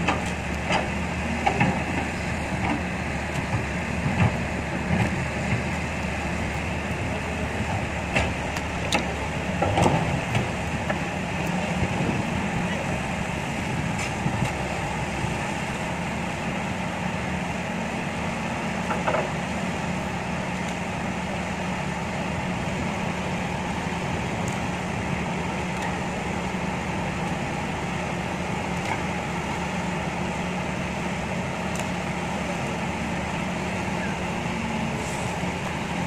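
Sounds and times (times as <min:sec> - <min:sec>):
heavy machinery engines humming: 0:00.0 - 0:36.0.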